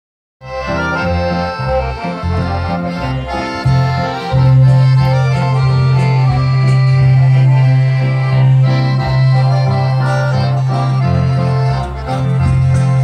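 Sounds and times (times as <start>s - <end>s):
accordion music: 0.4s - 13.0s.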